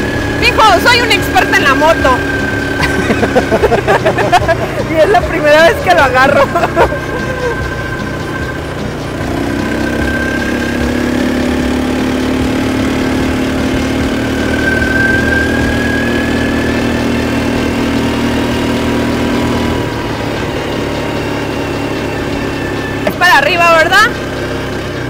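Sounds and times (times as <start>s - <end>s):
quad bike engine running: 0.0s - 25.0s.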